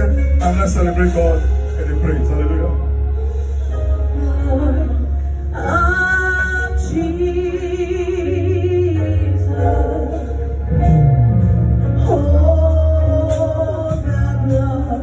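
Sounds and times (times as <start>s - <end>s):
singers holding long notes: 0.0s - 15.0s
steady bass line: 0.0s - 15.0s.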